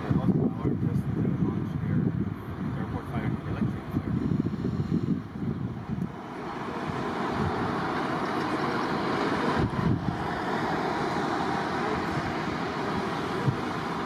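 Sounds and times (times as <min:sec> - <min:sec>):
jet aircraft engine rush: 0:00.0 - 0:14.0.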